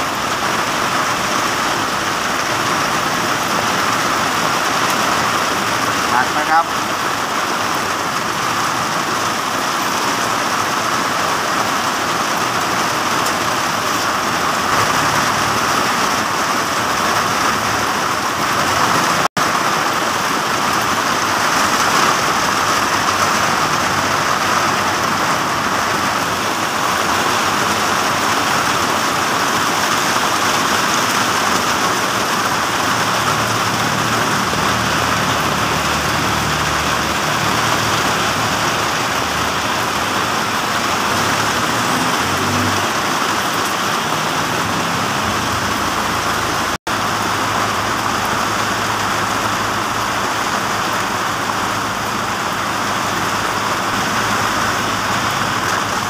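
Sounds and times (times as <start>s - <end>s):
heavy rain pouring on pavement: 0.0s - 56.0s.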